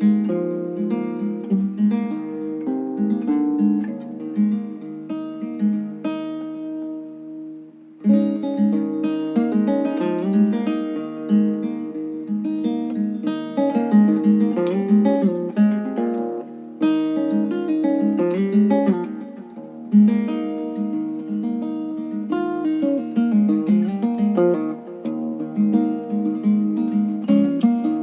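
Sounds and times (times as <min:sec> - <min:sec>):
acoustic guitar music: 0:00.0 - 0:28.0.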